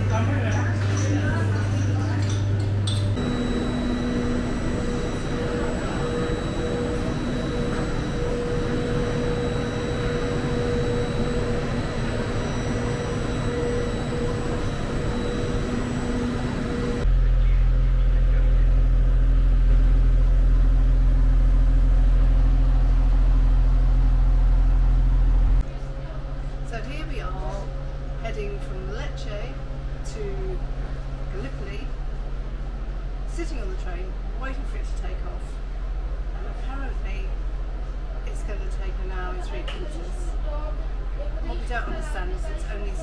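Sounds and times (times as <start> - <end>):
station noise: 0.0 - 43.0
trains humming and whining: 0.0 - 43.0
train idling deep hum: 3.2 - 43.0.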